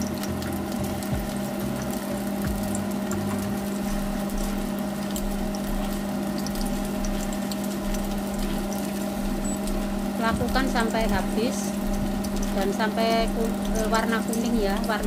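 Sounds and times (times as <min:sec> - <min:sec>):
deep-frying sizzle and crackles: 0:00.0 - 0:15.0
low hum: 0:00.0 - 0:15.0.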